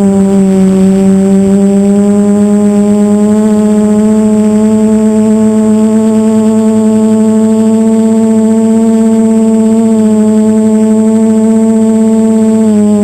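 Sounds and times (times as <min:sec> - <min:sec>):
quadcopter motors droning: 0:00.0 - 0:13.0.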